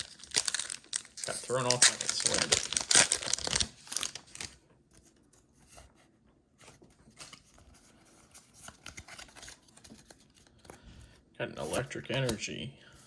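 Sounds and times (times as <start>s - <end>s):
cards and foil rustling: 0.0s - 5.2s, 6.6s - 10.9s, 11.5s - 12.7s.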